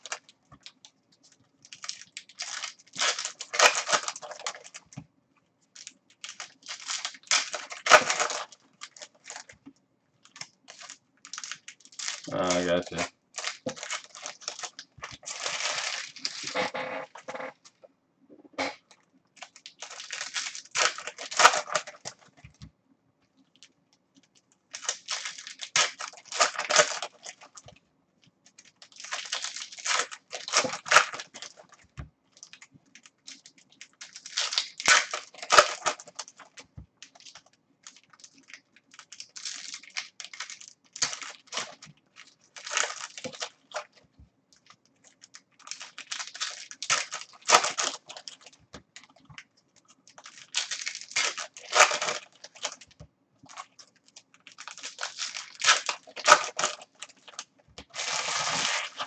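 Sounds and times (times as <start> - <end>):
foil wrappers tearing and crinkling: 1.6 - 5.0, 5.8 - 9.6, 10.2 - 17.6, 19.4 - 22.4, 24.7 - 27.7, 28.5 - 44.0, 44.6 - 59.0.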